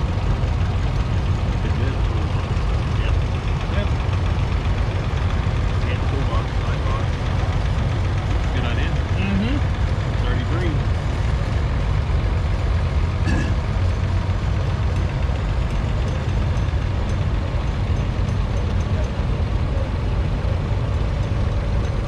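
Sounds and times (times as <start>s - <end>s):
tractor engines rumbling: 0.0s - 22.0s.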